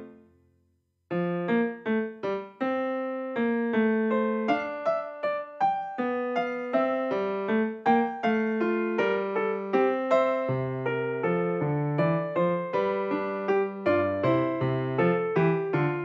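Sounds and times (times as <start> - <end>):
piano melody: 0.0 - 0.2, 1.1 - 16.0.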